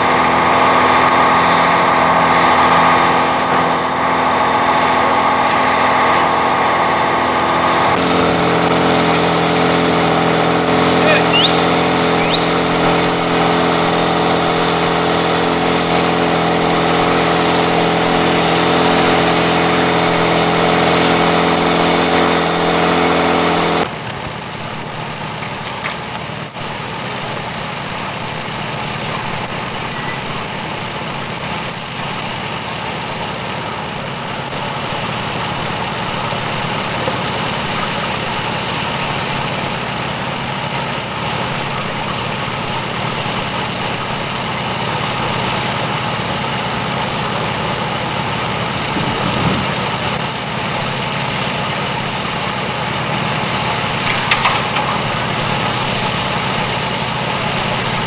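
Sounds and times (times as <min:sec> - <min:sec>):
portable fire pump running rough: 0:00.0 - 0:58.0
pump engine humming: 0:00.0 - 0:58.0.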